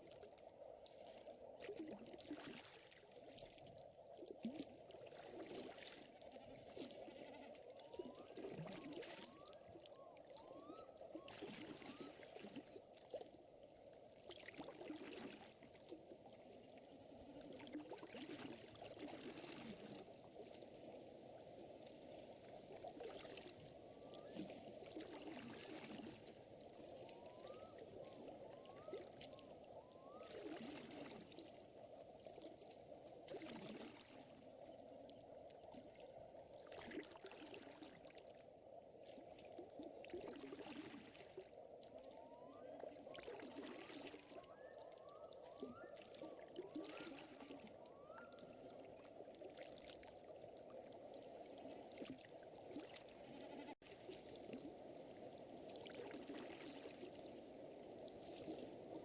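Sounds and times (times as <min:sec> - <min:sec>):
moving water: 0:00.0 - 0:59.0.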